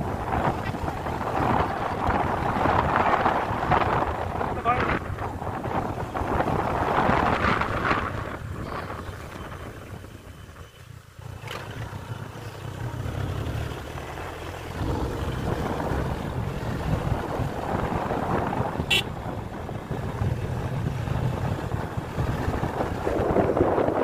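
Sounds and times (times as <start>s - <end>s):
wind buffeting microphone: 0.0s - 10.6s, 12.7s - 24.0s
motorcycle engine rumble: 0.0s - 24.0s.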